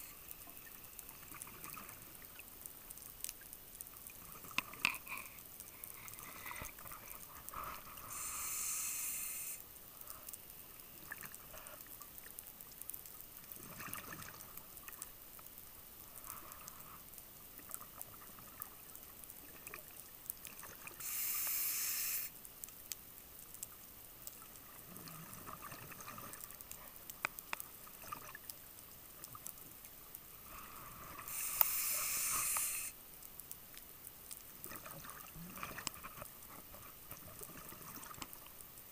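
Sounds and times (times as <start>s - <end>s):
faint clicks: 0.2s - 38.8s.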